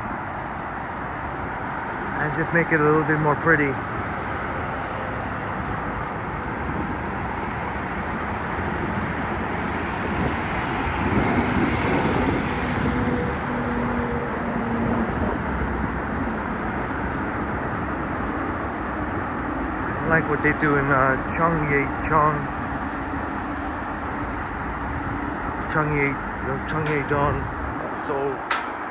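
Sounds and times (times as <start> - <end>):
road traffic noise: 0.0 - 28.9.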